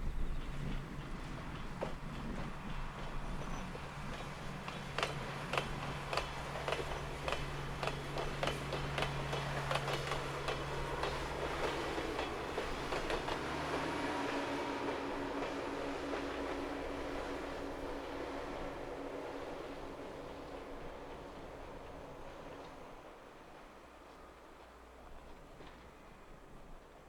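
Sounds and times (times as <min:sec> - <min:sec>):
diesel train engine hum: 0:00.0 - 0:27.0
train wheels clicking over rail joints: 0:00.0 - 0:27.0.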